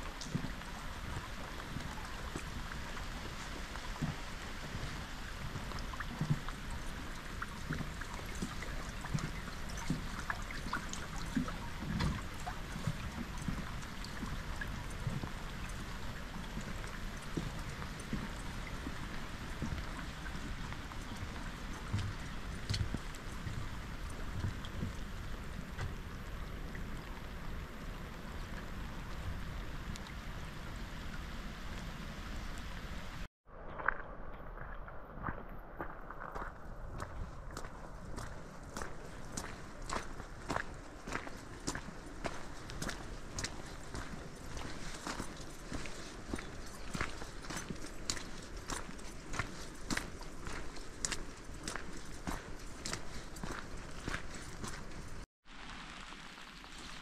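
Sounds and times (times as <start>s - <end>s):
light rain on water and wood: 0.0s - 33.3s, 36.3s - 57.0s.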